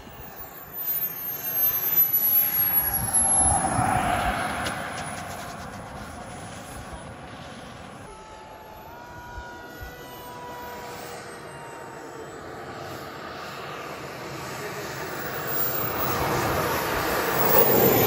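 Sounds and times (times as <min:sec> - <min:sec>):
model aircraft motor drone: 0:00.0 - 0:18.0.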